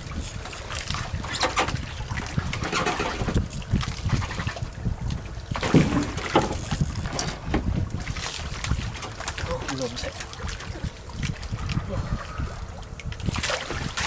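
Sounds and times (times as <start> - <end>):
low steady rumble: 0.0 - 14.0
water lapping against boat hull: 0.0 - 14.0.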